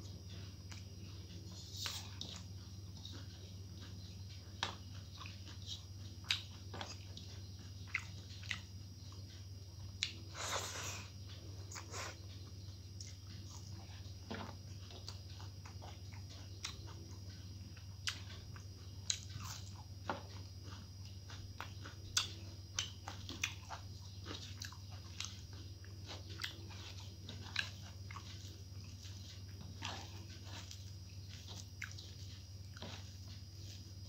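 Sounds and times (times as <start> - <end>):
person chewing food: 0.0 - 34.0
steady low hum: 0.0 - 34.0.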